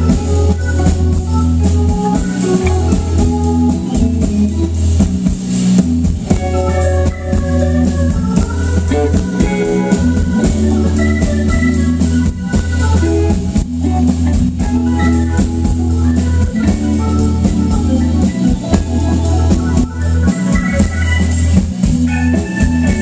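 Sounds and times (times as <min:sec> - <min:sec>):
drum beats: 0:00.0 - 0:23.0
electric guitar: 0:00.0 - 0:23.0
organ keyboard chords: 0:00.0 - 0:23.0.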